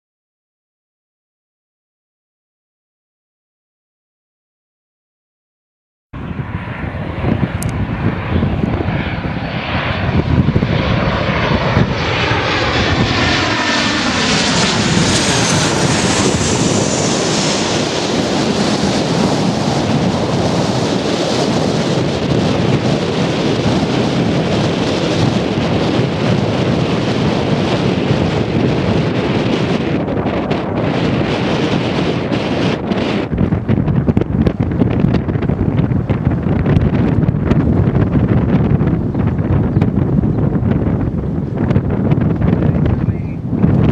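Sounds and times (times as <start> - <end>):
airliner engines passing: 6.2 - 43.9.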